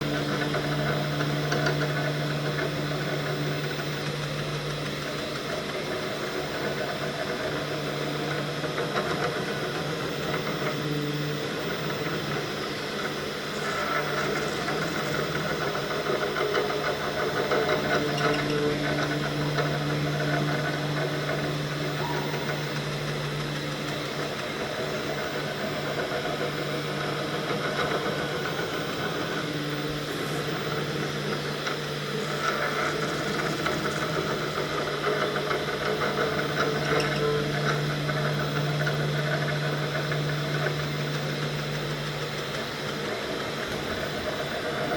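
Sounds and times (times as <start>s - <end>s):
cnc milling machine running: 0.0s - 44.9s.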